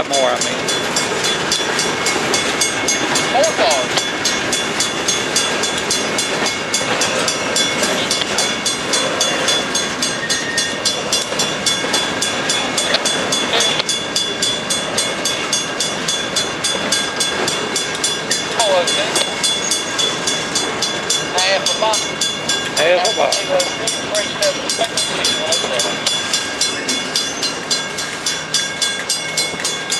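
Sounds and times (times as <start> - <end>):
crossing bell ringing: 0.0 - 29.9
train wheels on rails: 0.0 - 29.9.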